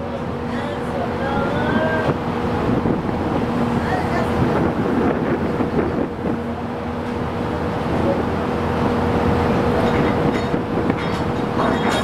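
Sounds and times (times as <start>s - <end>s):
ship engines droning: 0.0s - 12.0s
wind buffeting microphone: 0.0s - 12.0s.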